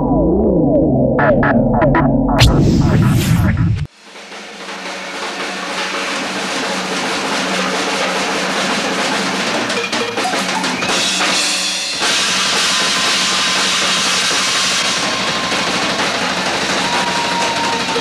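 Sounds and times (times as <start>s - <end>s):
drum-led music: 1.2s - 18.0s.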